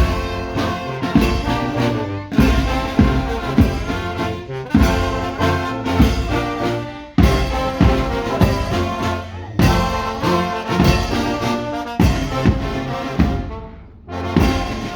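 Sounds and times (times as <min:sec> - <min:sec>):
brass band playing: 0:00.0 - 0:14.9
steady drum beat: 0:00.0 - 0:14.9.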